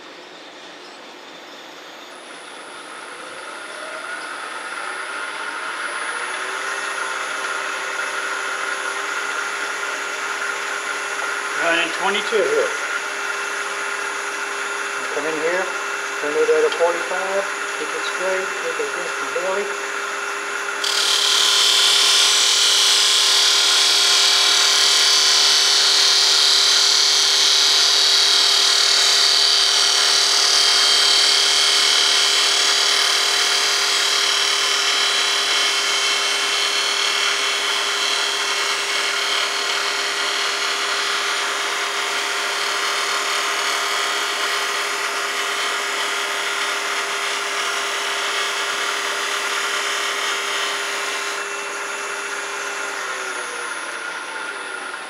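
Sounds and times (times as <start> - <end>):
lathe humming: 1.7 - 55.0
turning tool cutting hiss: 9.2 - 55.0.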